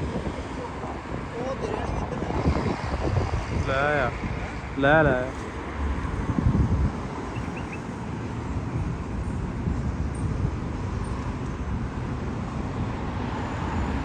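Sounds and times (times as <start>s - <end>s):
road traffic noise: 0.0s - 14.0s
wind buffeting microphone: 0.0s - 14.0s.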